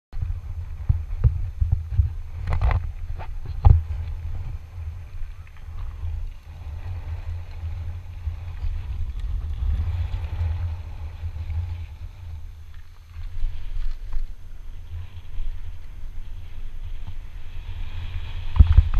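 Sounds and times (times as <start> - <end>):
wind rumble on microphone: 0.1 - 18.9
bike tyres rolling over gravel: 0.2 - 18.9.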